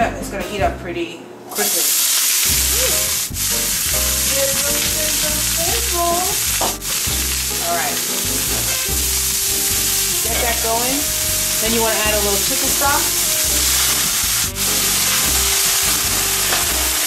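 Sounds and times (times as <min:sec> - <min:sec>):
broccoli sizzling in a frying pan: 0:01.5 - 0:17.0.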